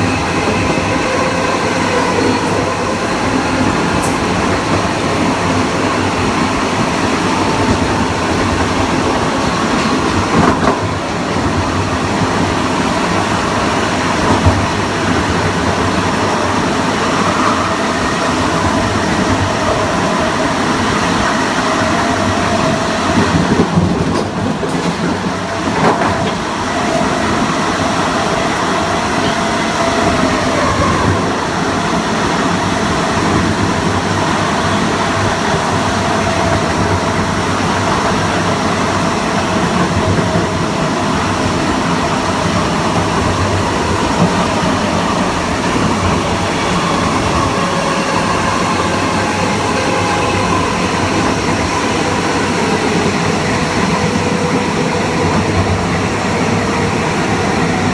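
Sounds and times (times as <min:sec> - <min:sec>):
train wheels on track: 0:00.0 - 0:57.9.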